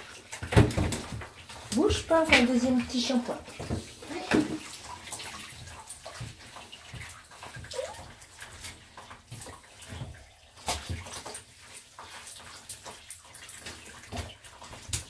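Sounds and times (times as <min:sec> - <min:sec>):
small splashes and clicks: 0:00.0 - 0:15.0
water sloshing in plastic tub: 0:00.0 - 0:15.0.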